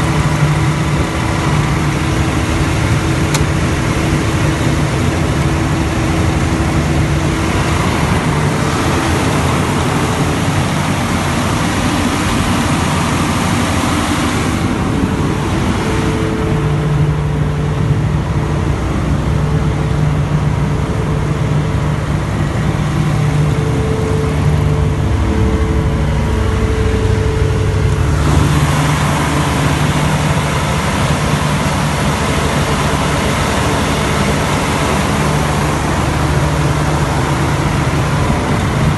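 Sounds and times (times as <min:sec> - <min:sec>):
diesel generator drone: 0:00.0 - 0:38.9.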